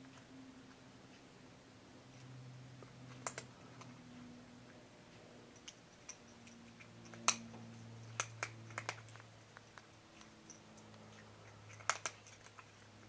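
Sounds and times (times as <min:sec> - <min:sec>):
faint low hum: 0:00.0 - 0:13.0
cat eating from a bowl: 0:02.2 - 0:13.0.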